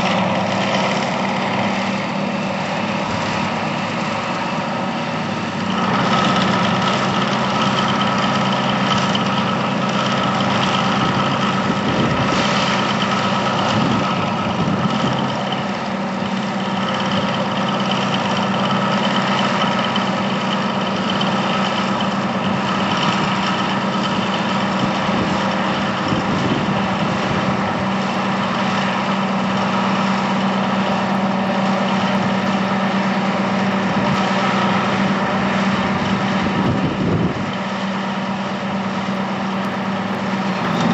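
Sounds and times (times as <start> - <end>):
simulated diesel engine running: 0.0 - 40.9.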